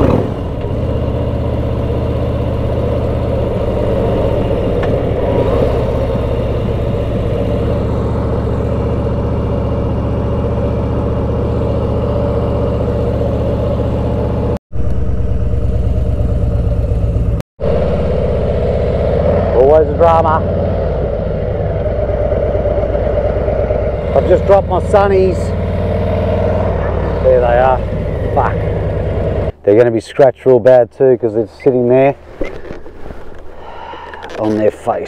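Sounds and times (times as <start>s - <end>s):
motorcycle engine running: 0.0s - 29.6s.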